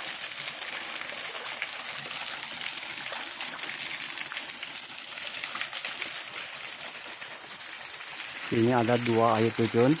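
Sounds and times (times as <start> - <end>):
small water splashes: 0.0 - 10.0
waterfall splashing: 0.0 - 10.0.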